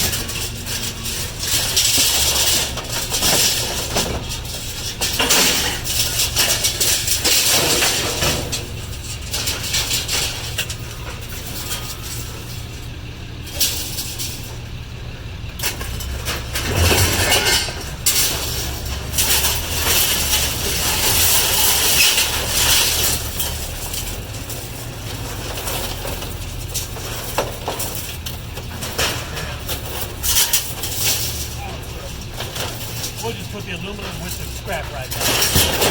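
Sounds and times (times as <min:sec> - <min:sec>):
metal and glass clinking: 0:00.0 - 0:14.7, 0:15.6 - 0:35.9
vehicle engine running: 0:00.0 - 0:35.9.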